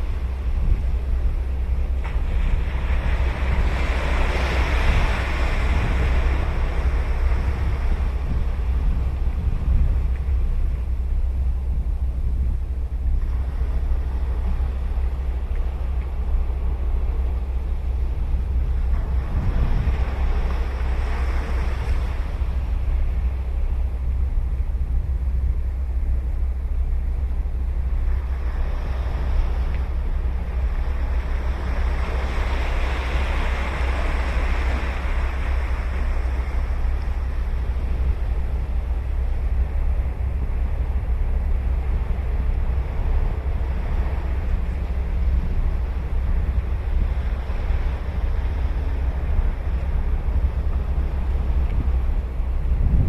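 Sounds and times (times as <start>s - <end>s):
sea waves breaking: 0.0s - 53.0s
wind rumble on microphone: 0.0s - 53.0s.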